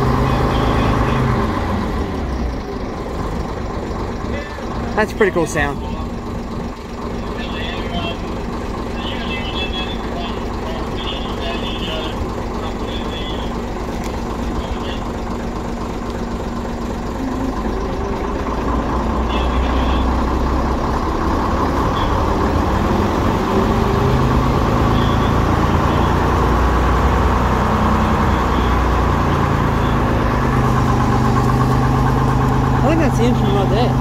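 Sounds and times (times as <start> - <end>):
bus engine idling: 0.0 - 34.0.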